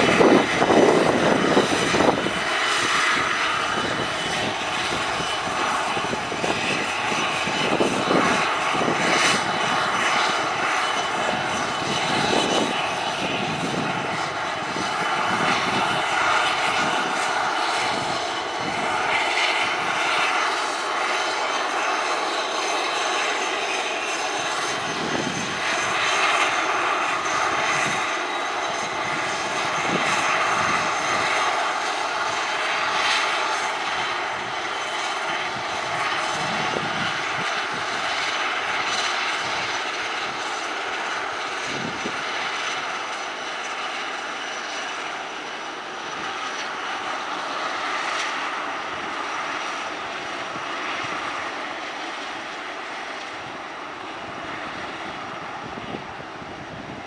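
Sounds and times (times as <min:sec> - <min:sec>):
turboprop engines running: 0:00.0 - 0:57.0.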